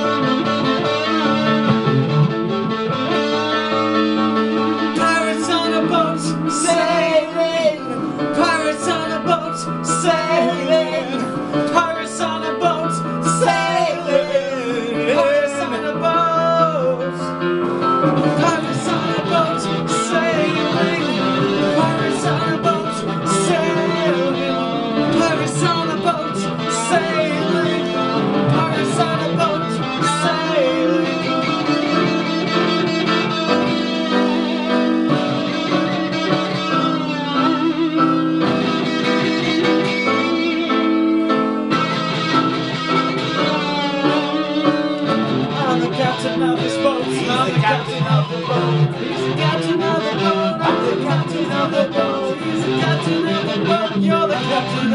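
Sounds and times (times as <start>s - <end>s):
electric guitar: 0.0s - 54.9s
keyboard playing: 0.0s - 54.9s.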